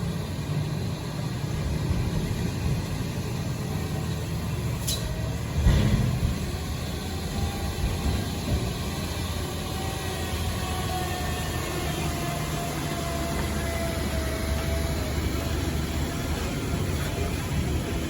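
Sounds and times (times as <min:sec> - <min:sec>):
truck engine running at low revs: 0:00.0 - 0:18.0.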